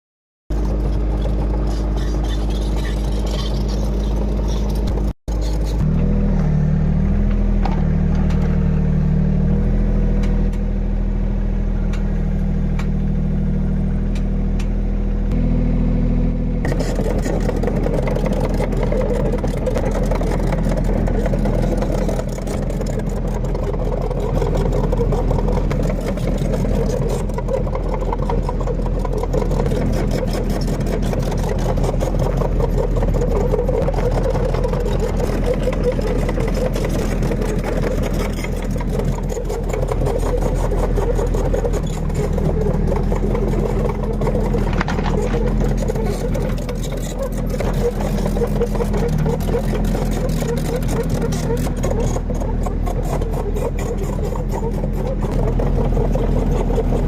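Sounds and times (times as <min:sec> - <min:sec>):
excavator diesel engine running: 0:00.5 - 0:57.0.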